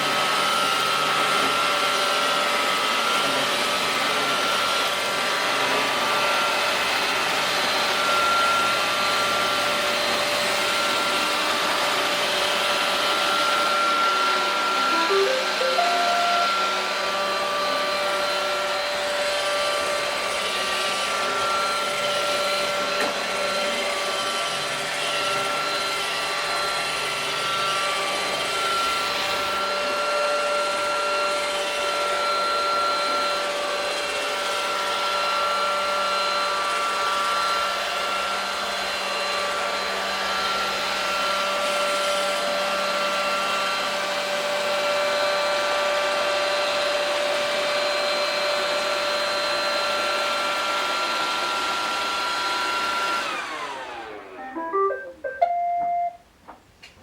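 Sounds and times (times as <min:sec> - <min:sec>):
robot vacuum running: 0:00.0 - 0:54.5.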